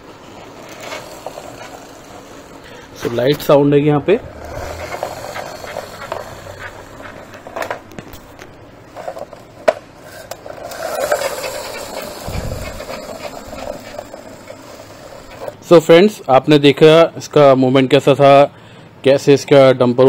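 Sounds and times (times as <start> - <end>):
toy truck whirring on stone floor: 0.1 - 16.2.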